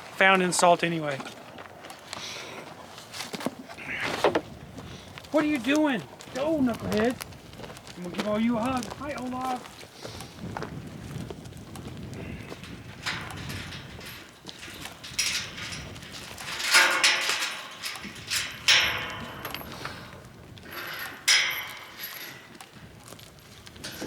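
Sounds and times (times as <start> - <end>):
hooves shuffling: 0.0 - 24.0.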